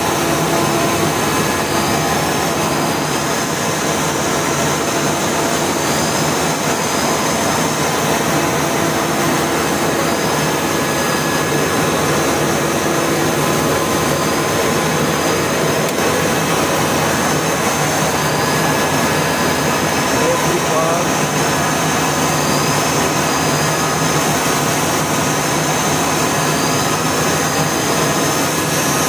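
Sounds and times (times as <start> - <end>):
faint high whine: 0.0 - 29.0
spinning machine whooshing drone: 0.0 - 29.0.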